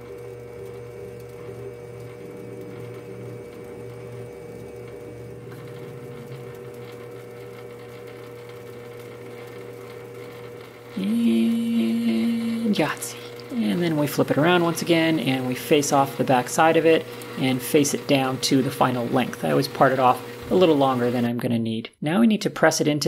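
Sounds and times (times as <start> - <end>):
metal lathe running: 0.0 - 21.3.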